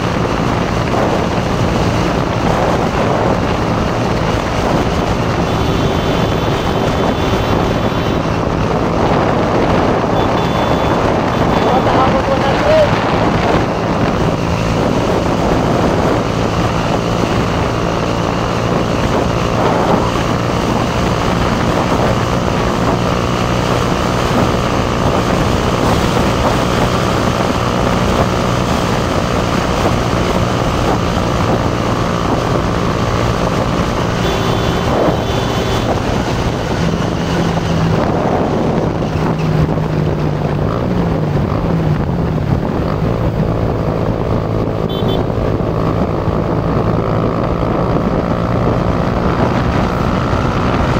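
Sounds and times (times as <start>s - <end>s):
motorcycle engine running: 0.0s - 50.9s
wind noise: 0.0s - 50.9s.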